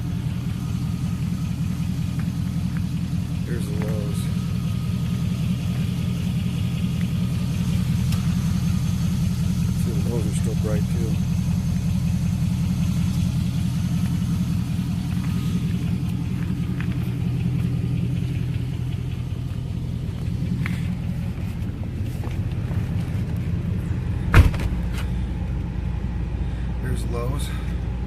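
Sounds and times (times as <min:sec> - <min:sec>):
car engine idling: 0:00.0 - 0:28.0
faint engine ticks: 0:00.0 - 0:28.0.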